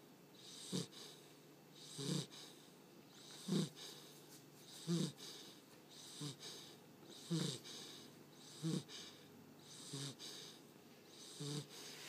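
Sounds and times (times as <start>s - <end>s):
puppy snoring: 0.3s - 12.0s.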